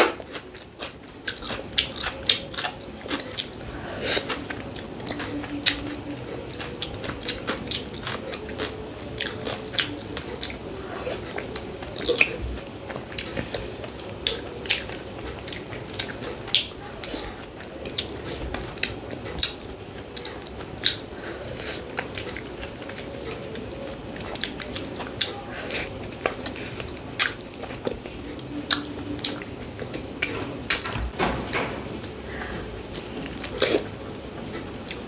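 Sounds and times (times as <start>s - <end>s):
chewing and mouth noises: 0.0s - 31.1s, 32.2s - 35.0s.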